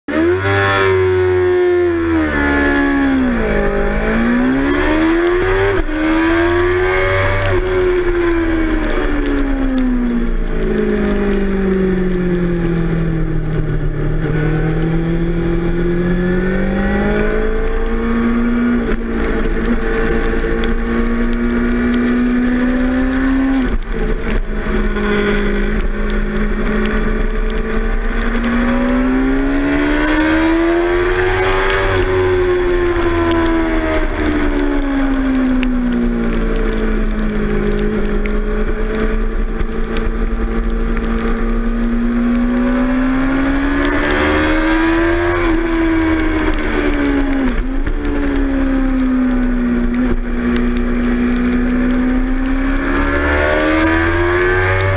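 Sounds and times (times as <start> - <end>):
motorcycle engine accelerating: 0.1 - 54.9
low wind rumble: 0.2 - 54.9.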